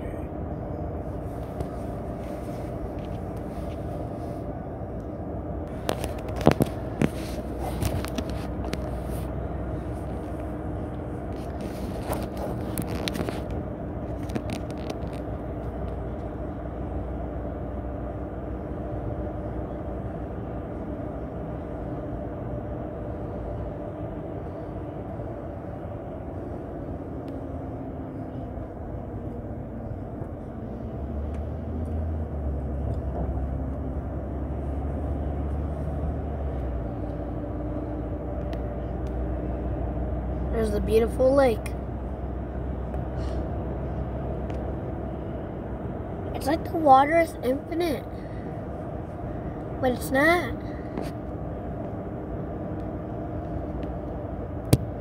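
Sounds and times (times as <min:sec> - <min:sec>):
deep rumble: 0:00.0 - 0:47.0
road vehicle drone: 0:00.0 - 0:55.0.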